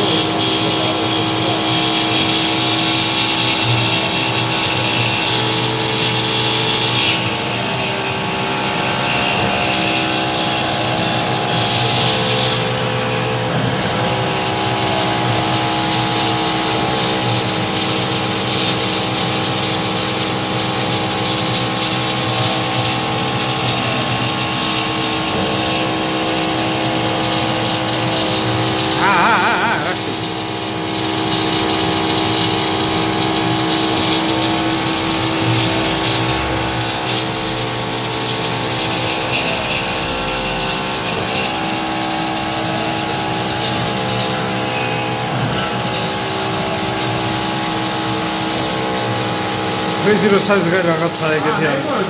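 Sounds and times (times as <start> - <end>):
cutting and coolant hiss: 0.0 - 52.0
milling spindle whine: 0.0 - 52.0.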